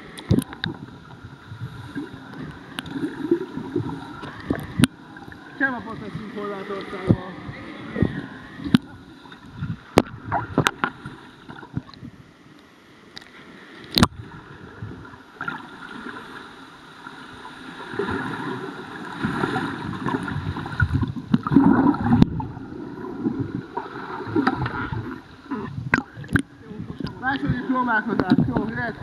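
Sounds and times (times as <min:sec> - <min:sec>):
water churning underwater: 0:00.0 - 0:29.0.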